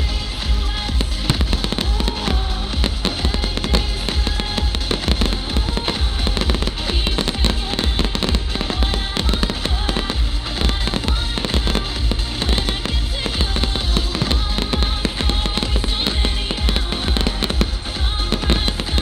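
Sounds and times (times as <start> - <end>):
fireworks bangs and cracks: 0.0 - 19.0
loud show music: 0.0 - 19.0.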